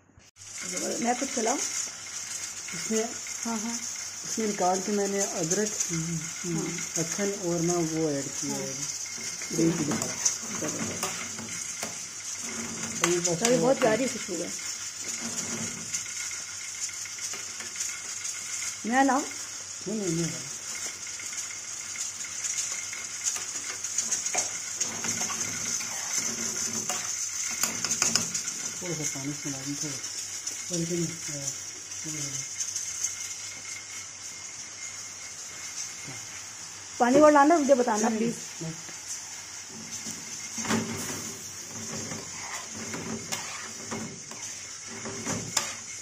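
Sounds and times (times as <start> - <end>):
meat sizzling in a metal pan: 0.4 - 46.0
metal spoon scraping a pan: 0.5 - 31.3, 39.7 - 46.0.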